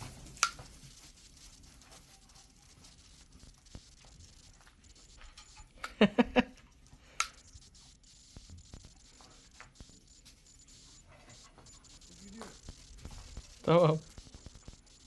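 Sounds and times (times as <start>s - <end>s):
high-pitched electronic whine: 0.4s - 5.9s, 7.2s - 15.0s.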